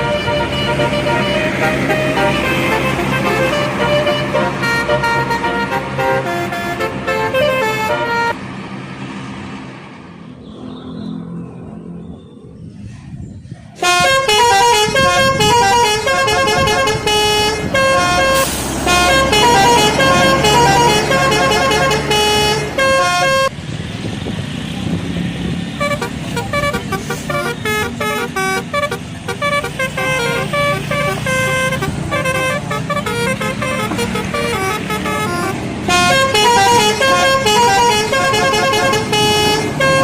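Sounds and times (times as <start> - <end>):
air horn playing a tune: 0.0 - 8.4, 13.8 - 23.5, 25.8 - 40.0
bus engine running: 0.0 - 40.0.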